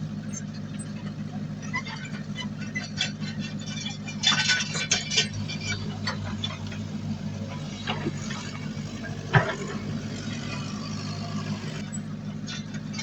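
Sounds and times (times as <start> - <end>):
diesel machine engine running: 0.0 - 13.0
metallic clanks and knocks: 1.7 - 13.0.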